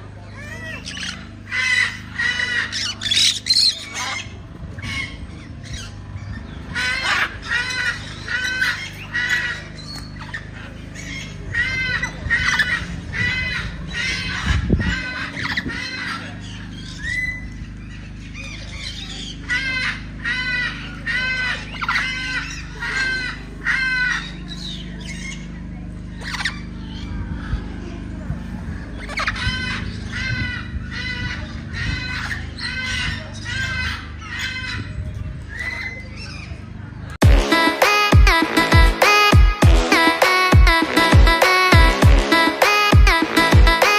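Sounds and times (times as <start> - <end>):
birds squawking: 0.0 - 43.9.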